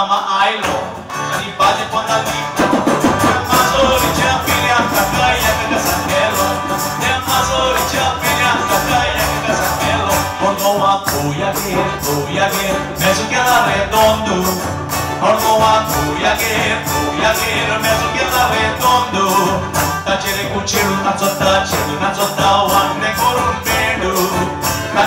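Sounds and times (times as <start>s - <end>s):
man singing into a microphone: 0.0s - 25.0s
strummed acoustic guitar: 0.0s - 25.0s
rattling percussion: 0.6s - 25.0s
electric bass: 0.8s - 25.0s.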